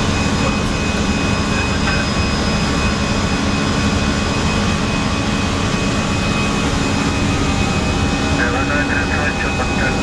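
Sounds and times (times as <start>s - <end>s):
jet engines and airflow rushing: 0.0s - 10.0s.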